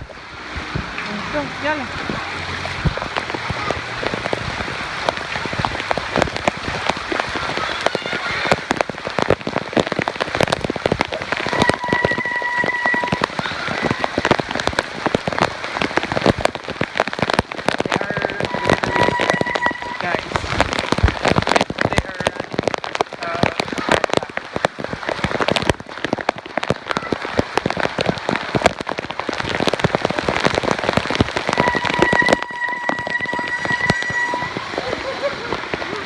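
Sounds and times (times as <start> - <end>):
heavy rain falling: 0.0 - 36.0
raindrops tapping close by: 0.0 - 36.0.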